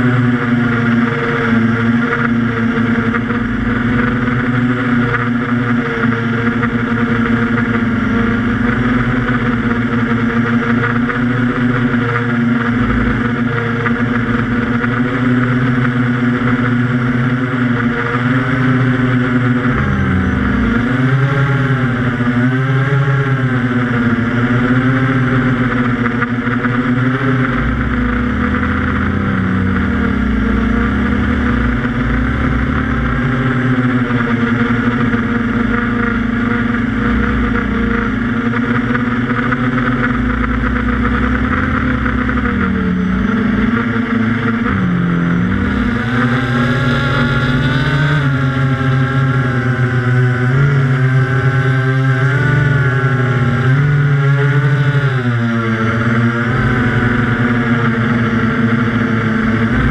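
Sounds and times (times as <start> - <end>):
quadcopter propellers buzzing: 0.0 - 59.9.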